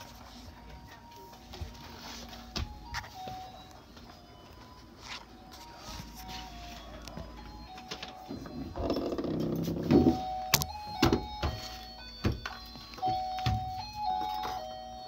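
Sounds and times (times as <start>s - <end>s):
simple electronic melody: 0.0s - 15.0s.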